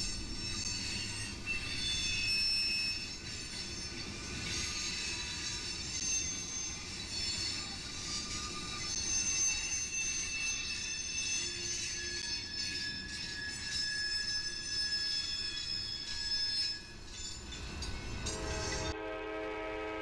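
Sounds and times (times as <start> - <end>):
freight train rumbling: 0.0 - 20.0
steel wheels squealing on rail: 0.0 - 20.0.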